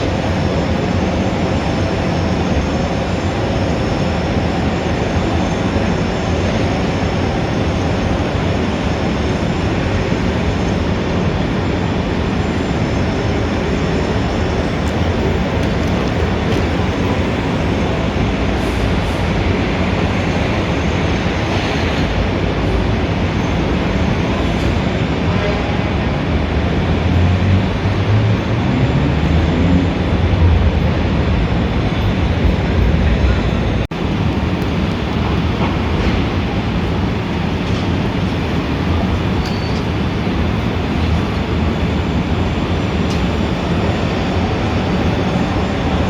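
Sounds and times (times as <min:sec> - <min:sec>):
city street traffic roar: 0:00.0 - 0:46.0.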